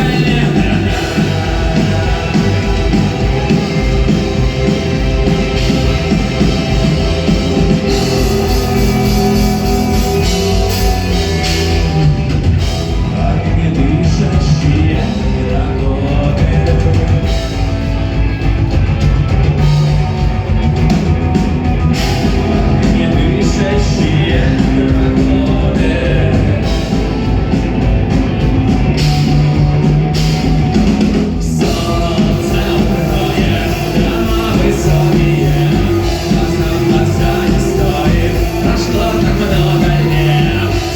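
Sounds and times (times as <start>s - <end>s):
person singing: 0.0s - 18.3s, 22.0s - 27.5s, 31.3s - 40.9s
live rock band playing: 0.0s - 40.9s.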